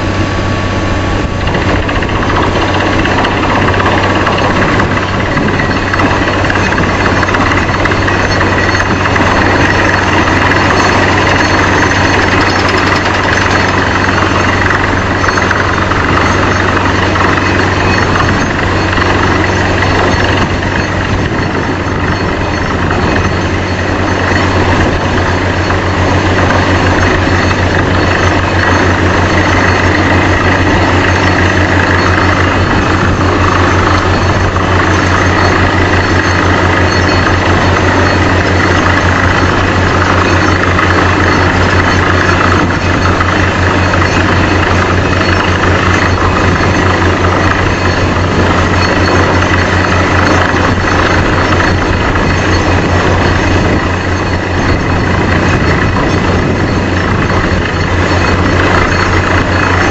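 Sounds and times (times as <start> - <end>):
diesel compressor drone: 0.0 - 59.9
drilling rig mechanical and air noise: 0.0 - 59.9.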